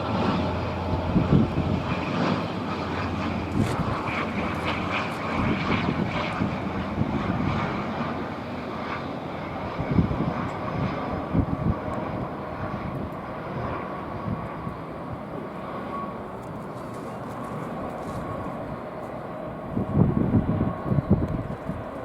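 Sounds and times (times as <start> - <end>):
airliner engines rushing: 0.0 - 22.0.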